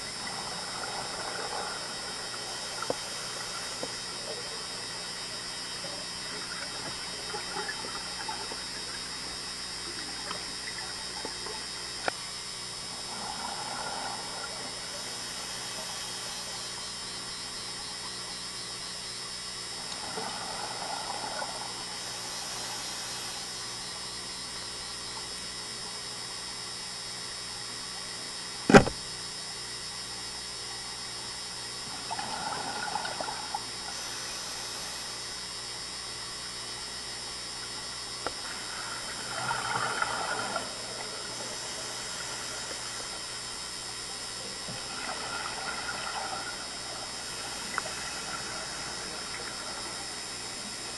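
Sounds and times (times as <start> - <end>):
regulator bubbles gurgling: 0.0 - 25.6, 30.3 - 50.9
steady hum: 0.0 - 50.9.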